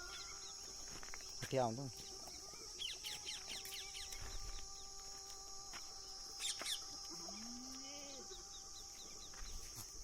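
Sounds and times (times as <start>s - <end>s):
small birds chirping: 0.0s - 5.1s, 6.3s - 10.0s.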